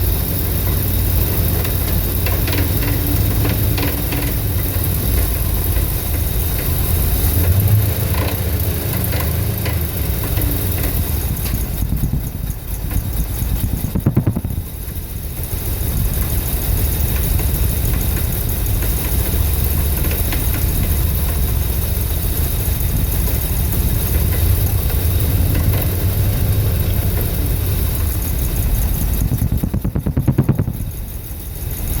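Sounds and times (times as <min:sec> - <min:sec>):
engine idling roughly: 0:00.0 - 0:32.0.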